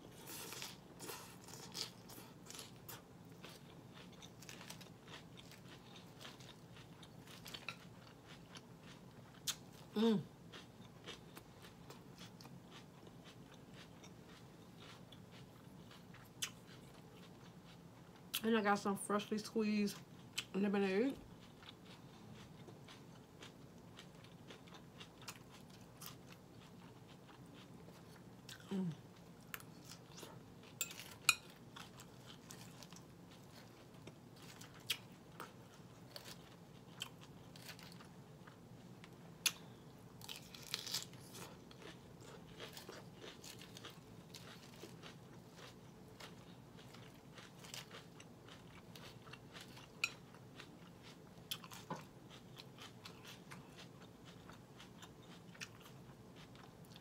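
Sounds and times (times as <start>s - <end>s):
lettuce crunching while chewing: 0.1s - 18.4s, 21.1s - 57.0s.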